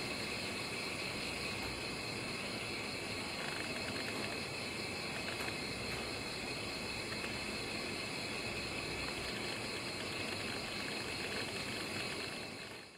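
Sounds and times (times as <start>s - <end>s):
background hiss: 0.0s - 12.9s.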